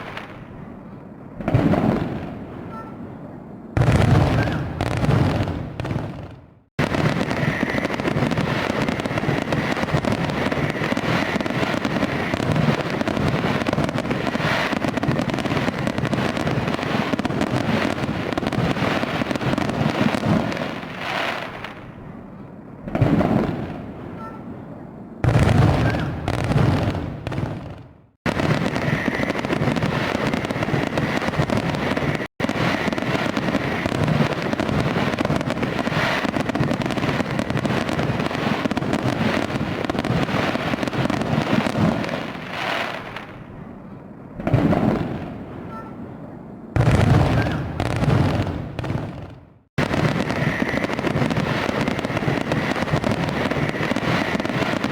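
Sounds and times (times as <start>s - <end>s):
fireworks crackling: 0.0s - 0.6s, 3.8s - 22.0s, 22.8s - 24.3s, 25.2s - 43.5s, 44.4s - 45.8s, 46.8s - 54.9s
fireworks bangs: 0.0s - 43.8s, 44.4s - 54.9s.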